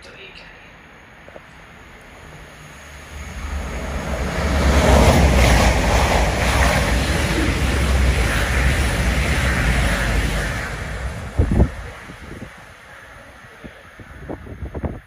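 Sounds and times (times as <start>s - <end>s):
train rushing past: 1.5s - 15.0s.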